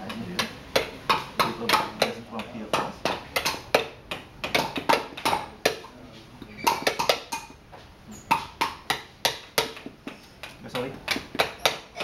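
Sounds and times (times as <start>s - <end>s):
mallets tapping chisels into wood: 0.0s - 7.6s, 8.3s - 12.0s.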